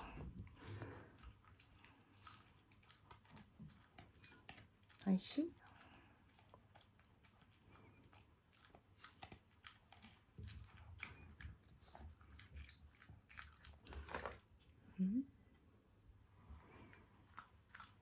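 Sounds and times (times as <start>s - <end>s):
dog chewing food: 0.0s - 14.8s, 16.4s - 18.0s.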